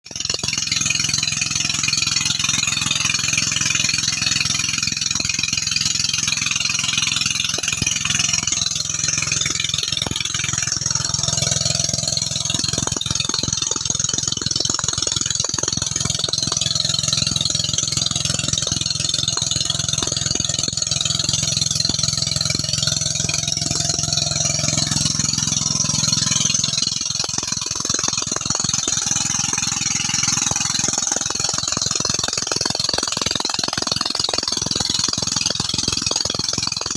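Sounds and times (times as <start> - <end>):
small petrol engine running: 0.0 - 36.9
knocks and rattles: 3.4 - 36.9.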